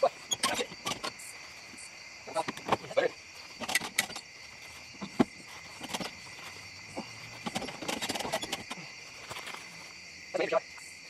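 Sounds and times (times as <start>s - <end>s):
handling knocks and rattles: 0.0s - 10.0s
crickets chirping: 0.0s - 11.0s.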